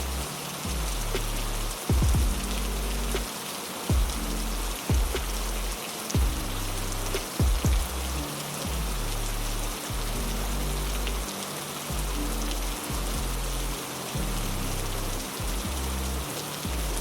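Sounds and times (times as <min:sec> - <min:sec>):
heavy rain falling: 0:00.0 - 0:17.0
low sustained music notes: 0:00.0 - 0:17.0.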